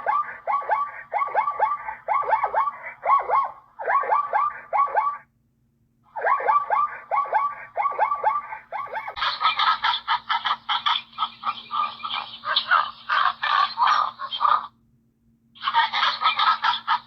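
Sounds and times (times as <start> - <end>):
animal calls: 0.0 - 5.3, 6.1 - 14.8, 15.6 - 17.0.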